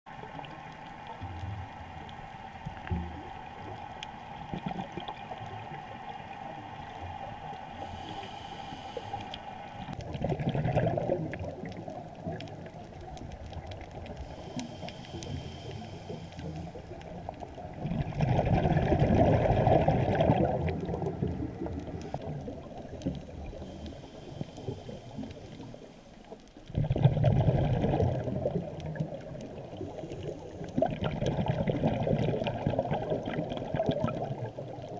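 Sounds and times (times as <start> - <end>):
muffled underwater water noise: 0.1 - 34.9.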